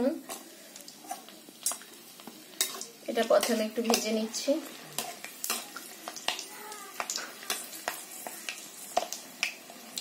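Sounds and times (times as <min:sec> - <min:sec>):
soft sizzle: 0:00.0 - 0:10.0
metal spatula stirring: 0:00.2 - 0:09.2
oil crackling and popping: 0:00.2 - 0:10.0.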